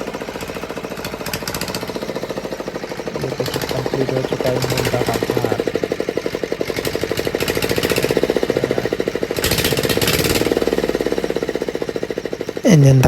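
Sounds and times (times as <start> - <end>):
diesel engine knocking: 0.0 - 13.0.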